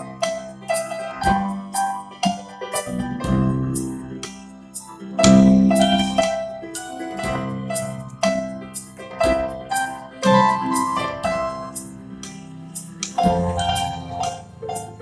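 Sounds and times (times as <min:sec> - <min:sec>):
keyboard notes and chords: 0:00.0 - 0:15.0.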